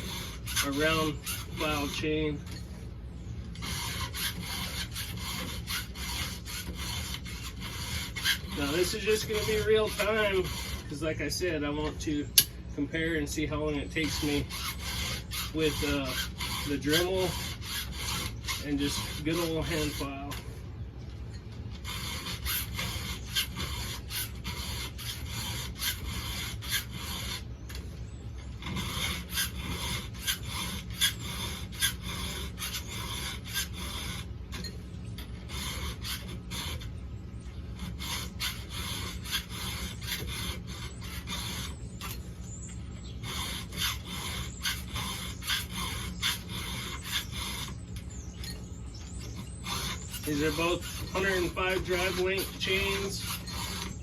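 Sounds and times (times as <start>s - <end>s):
file rasping on chainsaw chain: 0.0s - 2.8s, 3.5s - 20.5s, 21.7s - 54.0s.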